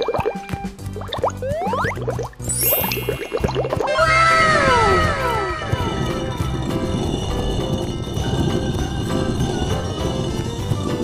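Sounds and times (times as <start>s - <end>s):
music with clopping rhythm: 0.0s - 11.0s.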